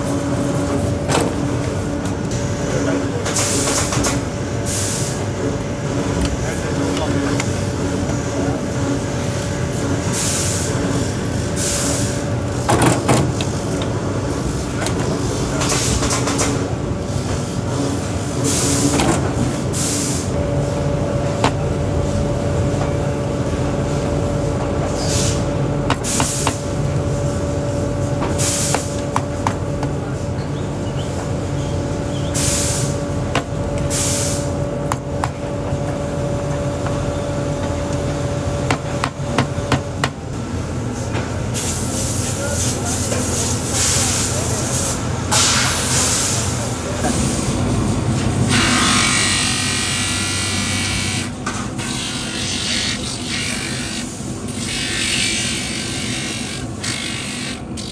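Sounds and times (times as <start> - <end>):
machinery humming: 0.0 - 42.6, 43.3 - 57.9.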